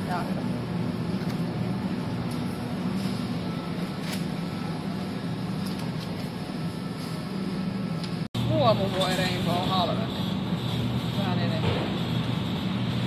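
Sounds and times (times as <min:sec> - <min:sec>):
supermarket background hum: 0:00.0 - 0:13.0.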